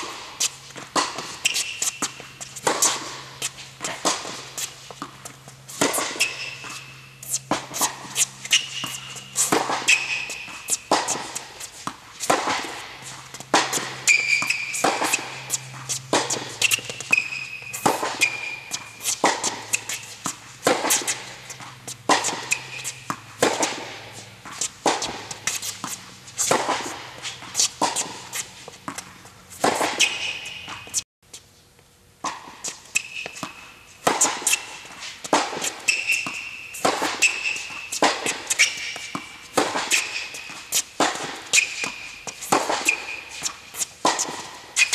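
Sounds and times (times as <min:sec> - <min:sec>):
racket striking tennis ball: 0:00.0 - 0:31.0, 0:32.2 - 0:44.9
tennis ball bouncing: 0:00.0 - 0:31.0, 0:32.2 - 0:44.9
tennis shoes squeaking on court: 0:00.0 - 0:44.9.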